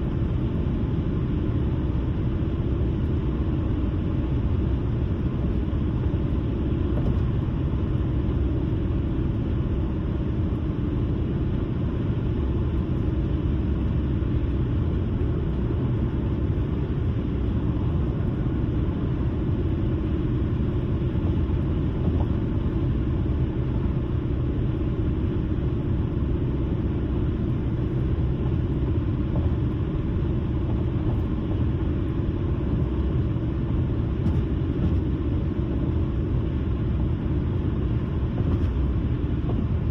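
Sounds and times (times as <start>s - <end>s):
car driving steadily: 0.0s - 39.9s.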